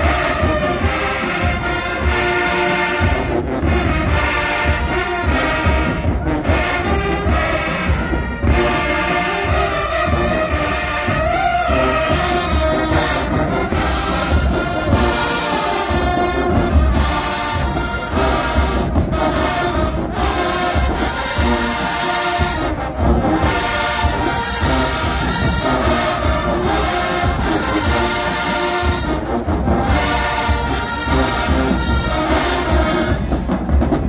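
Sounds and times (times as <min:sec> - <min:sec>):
marching band brass: 0:00.0 - 0:34.0.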